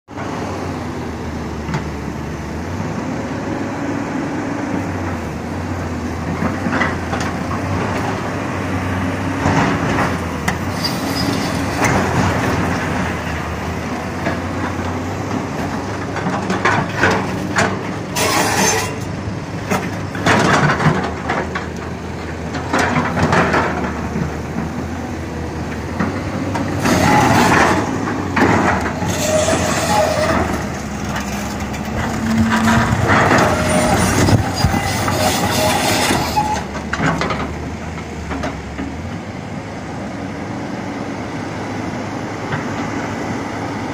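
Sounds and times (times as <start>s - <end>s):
excavator diesel engine running: 0.1s - 43.9s.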